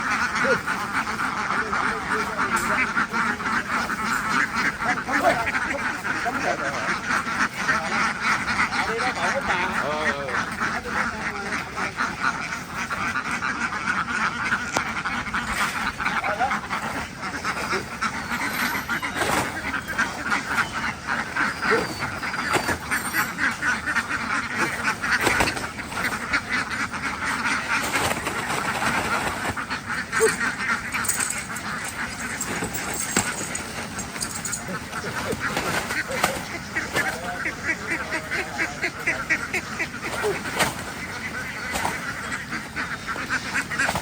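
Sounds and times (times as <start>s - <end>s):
flock of ducks quacking: 0.0s - 44.0s.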